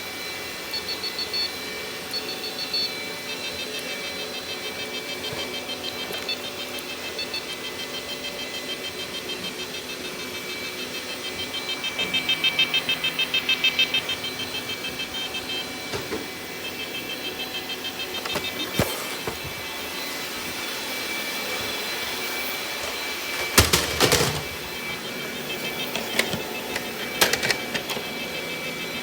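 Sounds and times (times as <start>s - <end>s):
robot vacuum humming: 0.0s - 29.0s.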